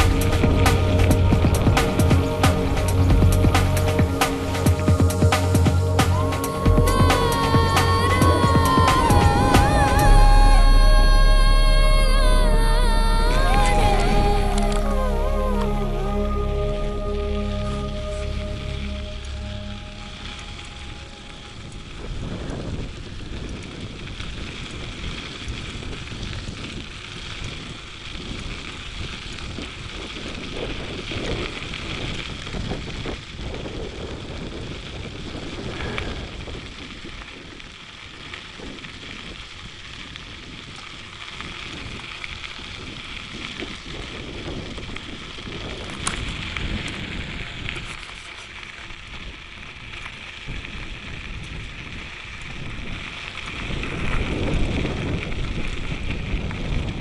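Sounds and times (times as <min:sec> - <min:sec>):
bicycle tyres rolling on trail: 0:00.0 - 0:57.0
wind buffeting microphone: 0:00.0 - 0:57.0.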